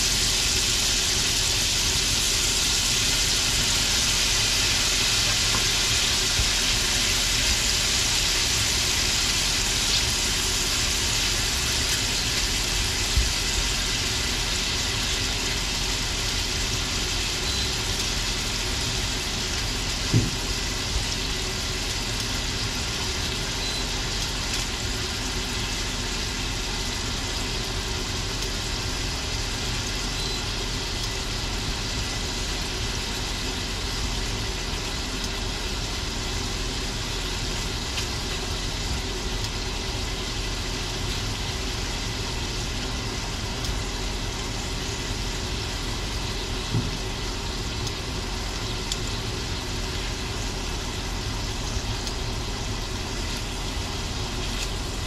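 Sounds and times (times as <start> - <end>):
shrimp sizzling in a skillet: 0.0 - 55.0.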